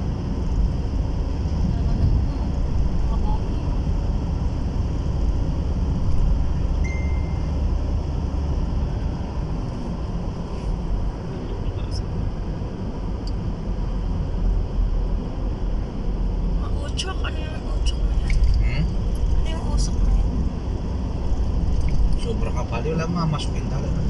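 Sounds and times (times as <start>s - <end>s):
car interior road noise: 0.0s - 24.0s.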